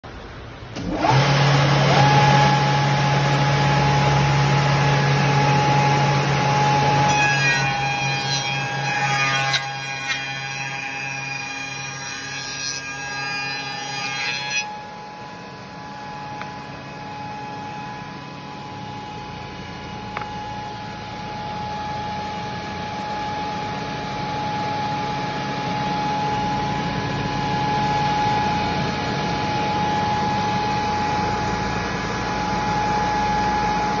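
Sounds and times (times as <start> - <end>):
machine motor whine: 0.7 - 34.0.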